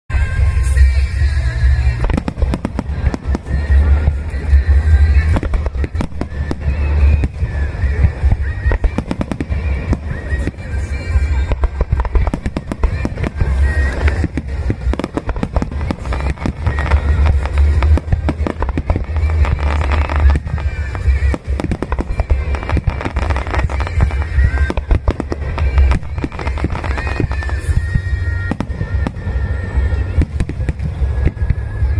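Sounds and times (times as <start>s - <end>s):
deep fireworks booms: 0.1s - 31.9s
fireworks bangs and crackles: 0.1s - 31.9s
music playing: 0.1s - 31.9s.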